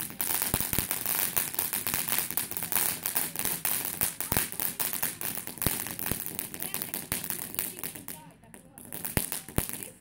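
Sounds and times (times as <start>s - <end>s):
firecrackers popping: 0.0s - 10.0s.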